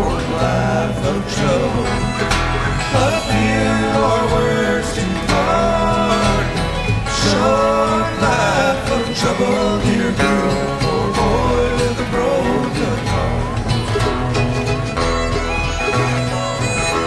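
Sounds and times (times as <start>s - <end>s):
person singing: 0.0s - 14.0s
plucked guitar: 0.0s - 17.0s.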